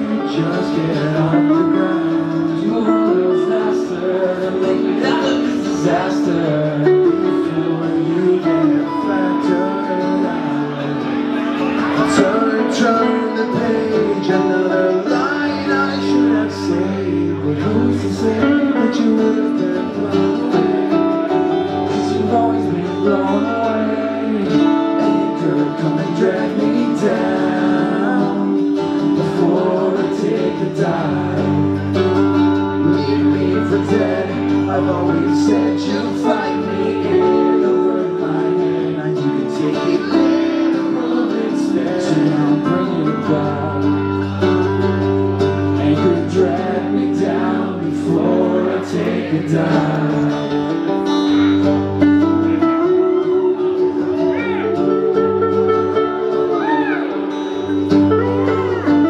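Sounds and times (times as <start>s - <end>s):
guitars strummed: 0.0s - 59.0s
man singing: 0.0s - 59.0s.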